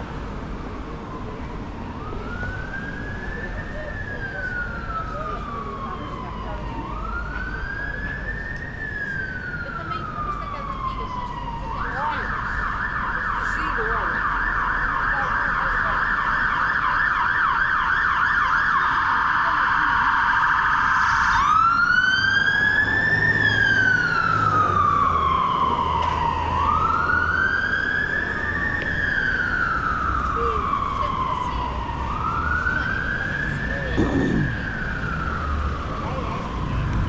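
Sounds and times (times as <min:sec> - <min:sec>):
emergency vehicle siren: 0:00.0 - 0:37.0.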